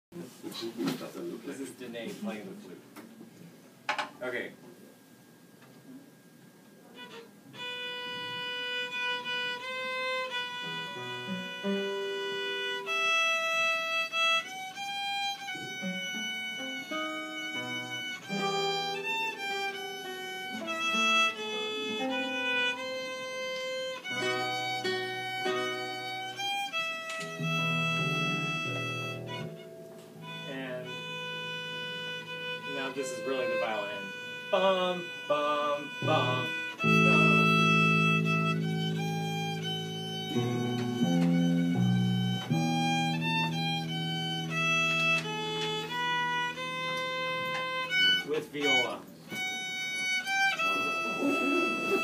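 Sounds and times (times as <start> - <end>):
classical guitar: 6.8 - 52.0
sustained lead melody: 8.4 - 52.0.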